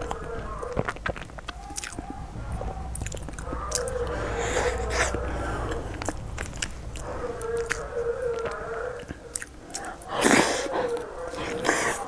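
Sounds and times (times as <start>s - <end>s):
chewing soft food: 0.0s - 12.0s.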